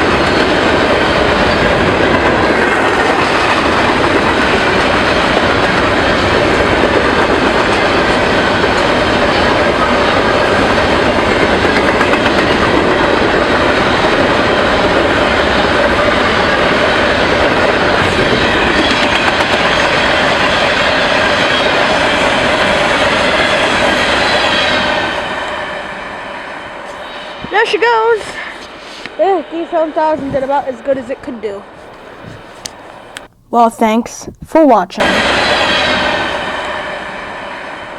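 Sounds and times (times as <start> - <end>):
train wheels rumbling and rattling: 0.0 - 33.5, 34.4 - 37.9.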